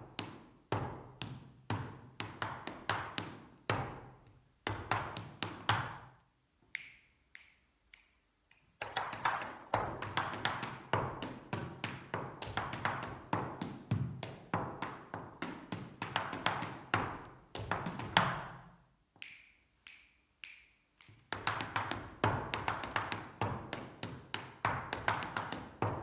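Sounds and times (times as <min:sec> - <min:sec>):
dance shoes tapping on hard floor: 0:00.0 - 0:06.2, 0:08.8 - 0:18.7, 0:21.1 - 0:26.0.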